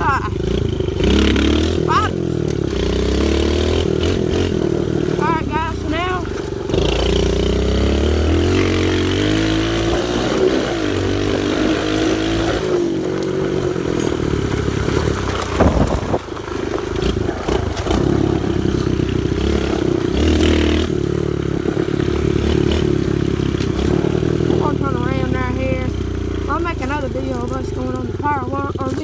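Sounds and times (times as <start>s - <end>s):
pit bike engine revving: 0.0s - 29.0s.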